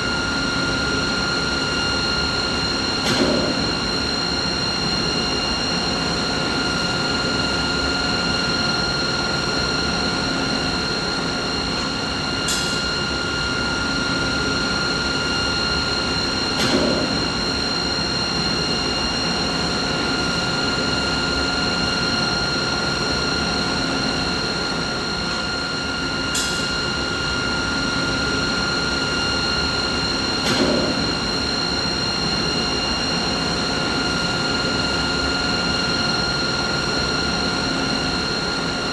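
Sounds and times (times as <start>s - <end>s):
machinery humming: 0.0s - 38.9s.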